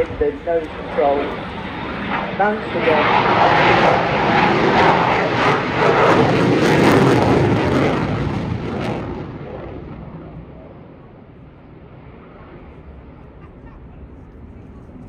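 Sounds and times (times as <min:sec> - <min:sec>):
loud jet engine noise: 0:00.0 - 0:15.0.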